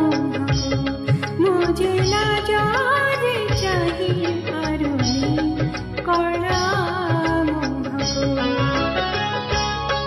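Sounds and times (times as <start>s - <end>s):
devotional melody line: 0.0s - 10.0s.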